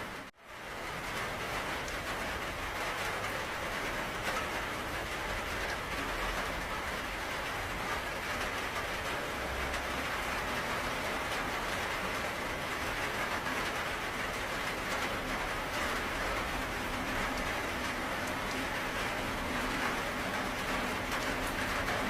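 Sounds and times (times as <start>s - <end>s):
steady rain hiss: 0.0s - 22.0s
rain drop ticks: 0.5s - 22.0s.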